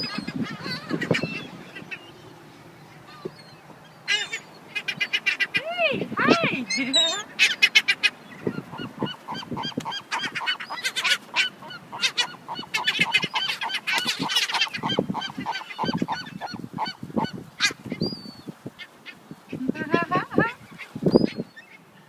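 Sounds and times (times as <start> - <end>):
gulls squawking: 0.0 - 22.0.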